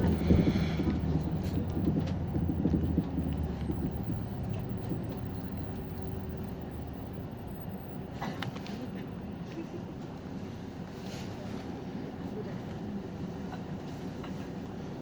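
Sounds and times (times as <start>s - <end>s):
bus engine hum: 0.0s - 15.0s
road noise: 0.0s - 15.0s.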